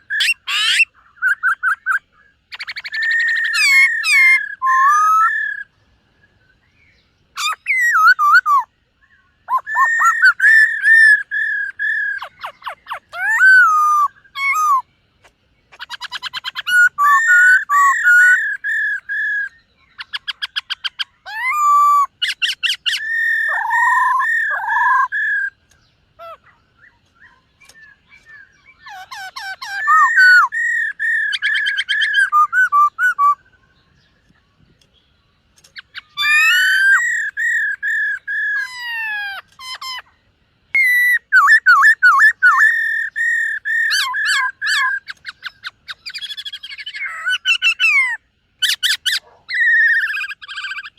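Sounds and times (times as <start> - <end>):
bird singing whistles and trills: 0.0 - 50.9.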